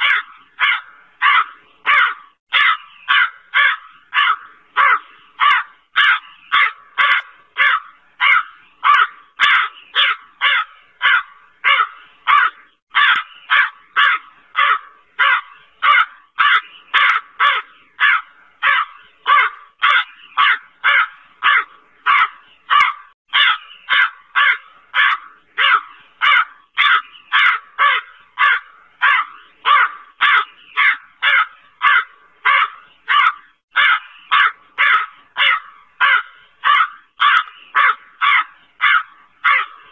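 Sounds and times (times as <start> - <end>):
crow cawing: 0.0 - 39.9.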